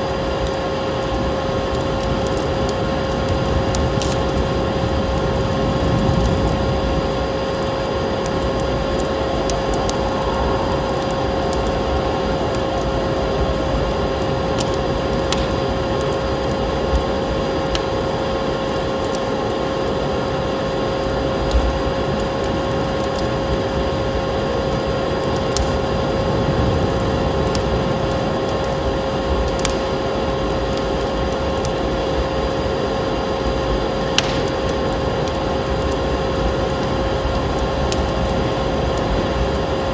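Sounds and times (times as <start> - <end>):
faint hum: 0.0 - 39.9
wood fire crackling: 0.0 - 39.9.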